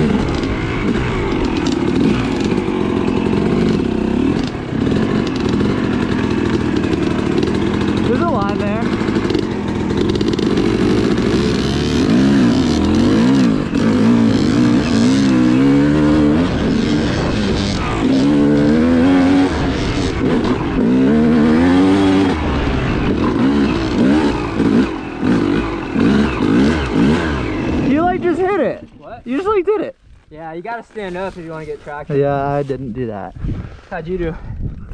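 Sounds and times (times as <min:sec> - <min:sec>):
dirt bike engine revving: 0:00.0 - 0:29.6.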